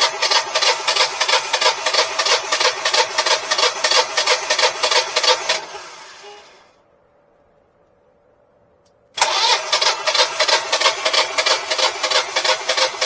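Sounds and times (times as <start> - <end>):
generator engine cranking on starter: 0.0 - 6.8, 9.2 - 13.0.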